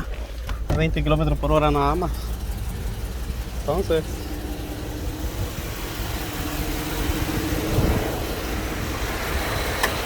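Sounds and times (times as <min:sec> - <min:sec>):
engine running unevenly: 0:00.0 - 0:10.0.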